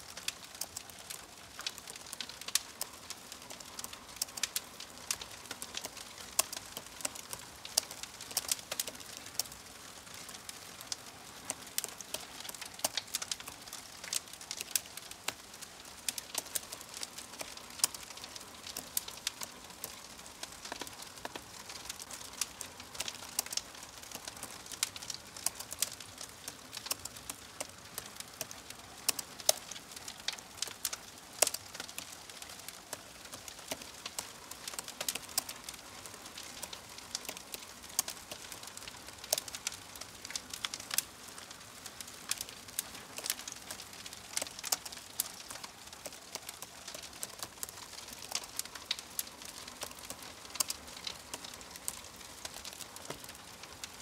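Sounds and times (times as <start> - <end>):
crackling fire: 0.0 - 54.0.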